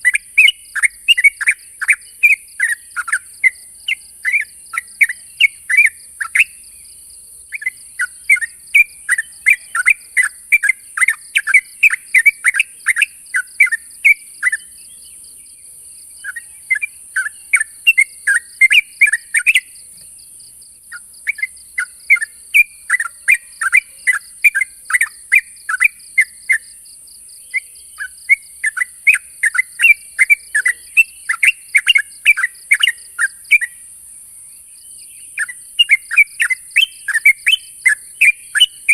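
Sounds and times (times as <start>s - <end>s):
bird chattering call: 0.0s - 6.6s, 7.5s - 14.7s, 16.2s - 19.7s, 20.9s - 26.6s, 27.5s - 33.7s, 35.4s - 38.9s.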